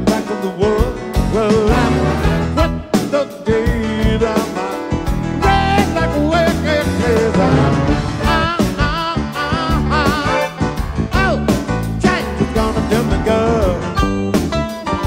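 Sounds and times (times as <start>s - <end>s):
man singing lead vocal: 0.0s - 14.2s
honky-tonk rock band playing: 0.0s - 15.0s.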